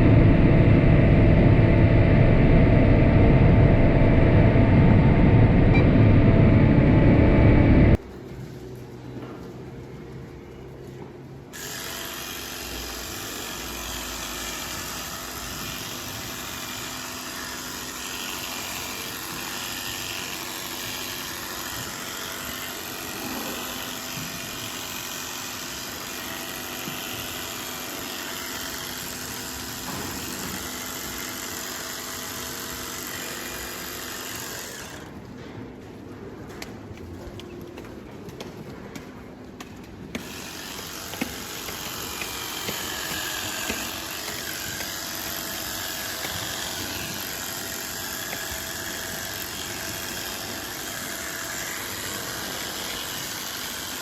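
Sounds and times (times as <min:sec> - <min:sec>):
power tool running: 0:00.0 - 0:08.0, 0:11.6 - 0:35.2, 0:40.1 - 0:54.0.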